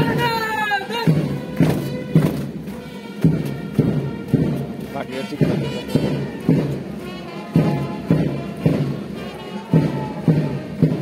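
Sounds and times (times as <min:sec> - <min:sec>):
bass drum beat: 0:00.0 - 0:11.0
brass band playing a march: 0:00.0 - 0:11.0.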